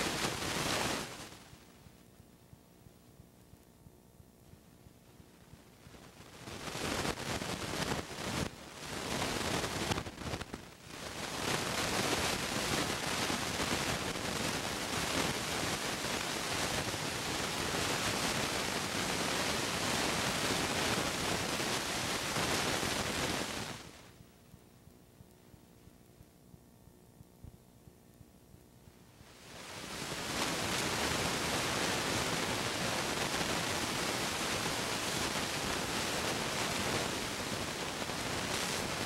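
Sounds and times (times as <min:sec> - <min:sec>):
static hiss: 0:00.0 - 0:39.0.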